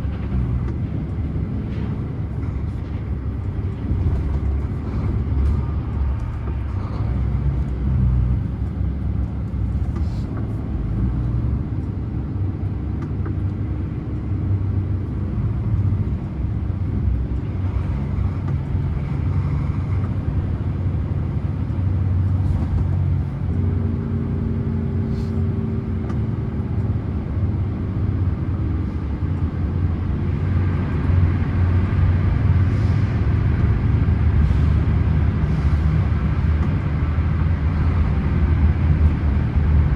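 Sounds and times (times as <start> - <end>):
truck rumbling with road noise: 0.0 - 39.9.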